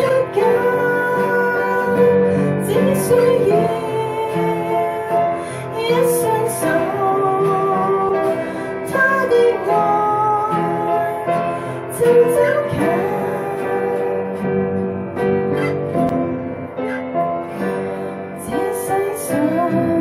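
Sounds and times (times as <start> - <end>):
woman singing: 0.0 - 14.8, 17.6 - 20.0
acoustic guitar: 0.0 - 20.0
piano: 0.0 - 20.0.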